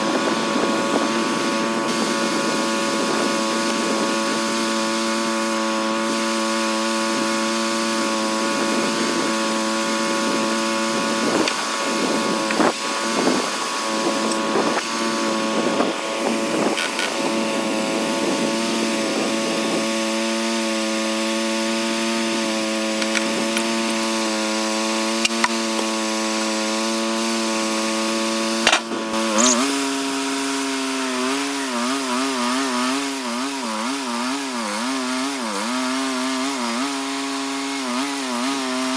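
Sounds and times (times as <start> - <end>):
saw cutting through log: 0.0 - 38.9
sawmill engine running: 0.0 - 38.9.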